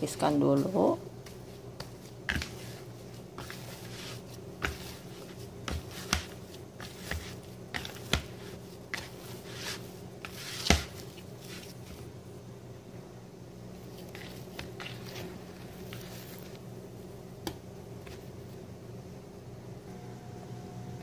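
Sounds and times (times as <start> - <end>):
dough squishing: 0.0 - 12.2, 13.7 - 18.6.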